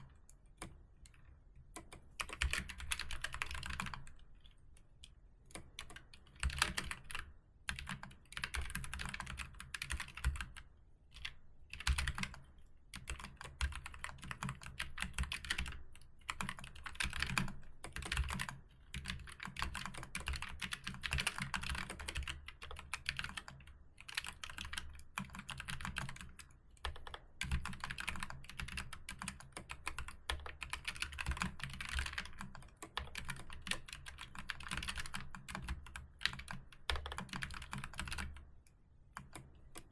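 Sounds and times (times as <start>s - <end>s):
typing on computer keyboard: 0.1s - 4.6s, 5.5s - 38.5s, 39.1s - 39.9s.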